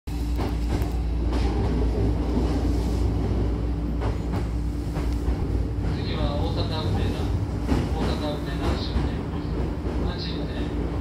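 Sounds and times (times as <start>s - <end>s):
train rumble with motor hum: 0.1s - 11.0s.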